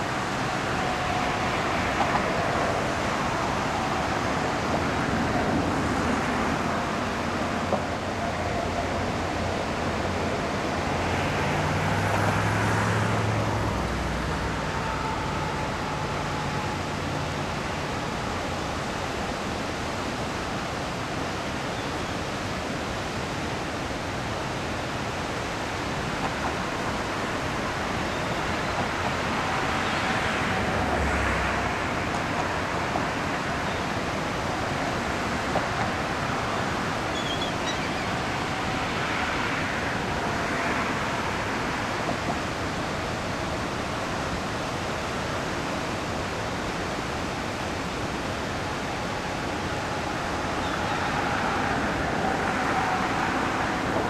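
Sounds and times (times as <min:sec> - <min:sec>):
water rushing from spillway: 0:00.0 - 0:54.0.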